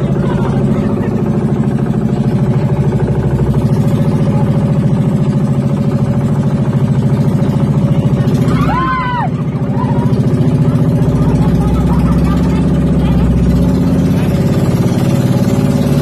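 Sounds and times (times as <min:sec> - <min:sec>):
boat engine puttering: 0:00.0 - 0:16.0.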